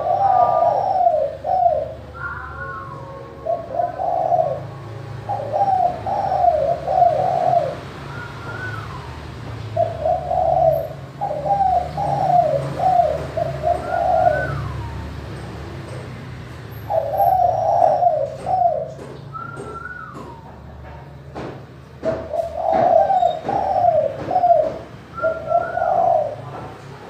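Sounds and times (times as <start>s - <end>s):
dove cooing: 0.0s - 16.1s, 16.7s - 20.7s, 22.0s - 27.0s.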